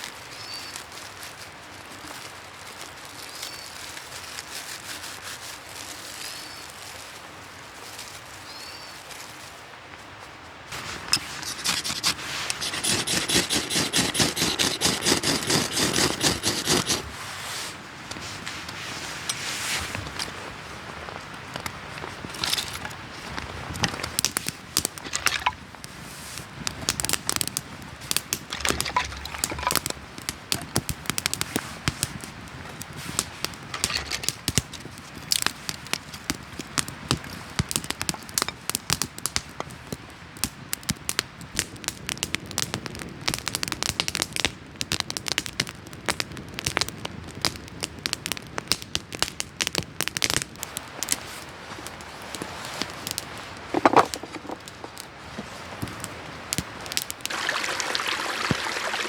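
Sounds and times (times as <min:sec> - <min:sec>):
low hiss: 0:00.0 - 0:43.7, 0:49.4 - 0:59.0
campfire crackling and popping: 0:00.0 - 0:59.0.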